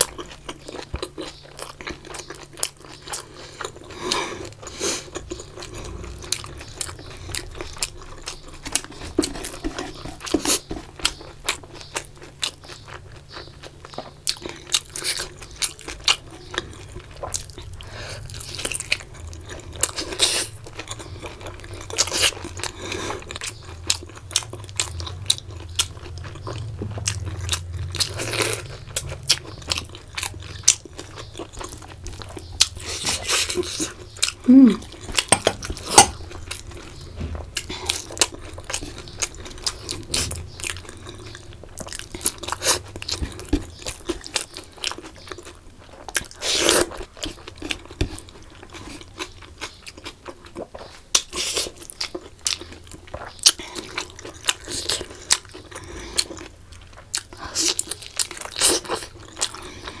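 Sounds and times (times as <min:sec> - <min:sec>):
person chewing: 0:00.0 - 1:00.0.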